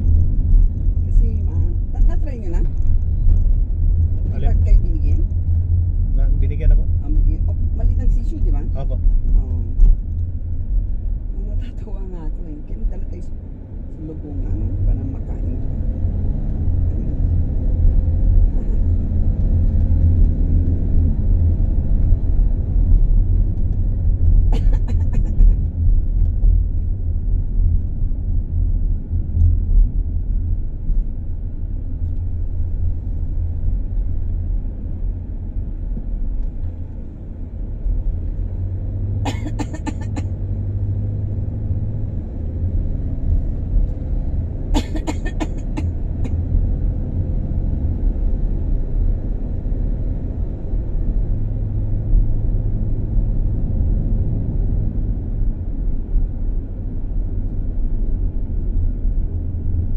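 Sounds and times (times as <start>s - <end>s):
car engine and tyres rumble: 0.0s - 59.9s.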